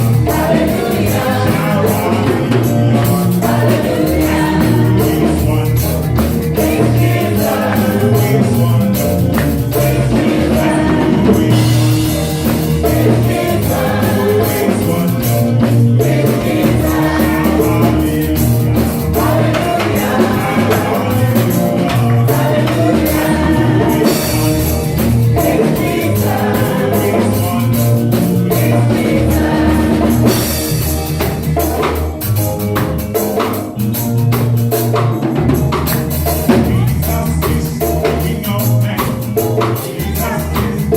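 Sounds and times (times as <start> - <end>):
gospel singing with band: 0.0 - 40.9
tambourine: 0.0 - 40.9.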